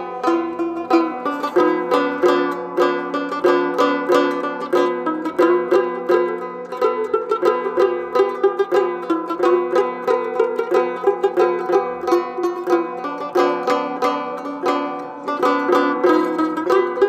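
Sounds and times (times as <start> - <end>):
plucked string tune: 0.0 - 17.0.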